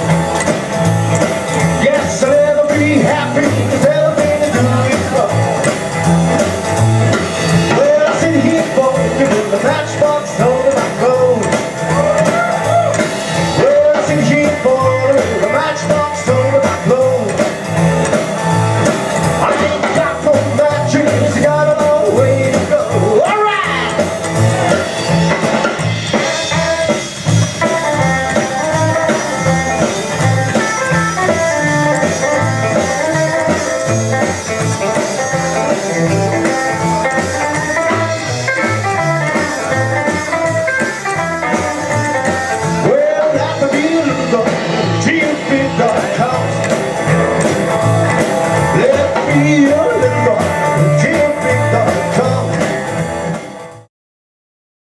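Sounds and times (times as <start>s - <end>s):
guitar: 0.0s - 53.9s
rockabilly band playing: 0.0s - 53.9s.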